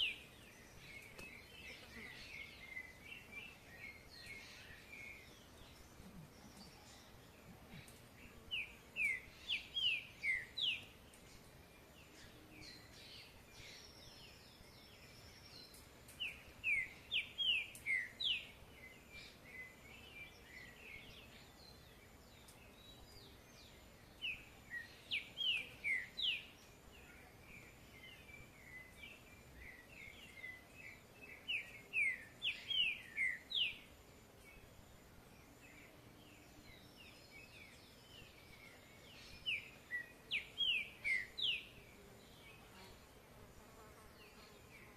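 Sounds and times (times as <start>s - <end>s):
songbird whistled song: 0.0s - 34.7s, 35.4s - 42.7s
soft bird chirps: 0.0s - 43.1s
faint outdoor background: 0.0s - 44.9s.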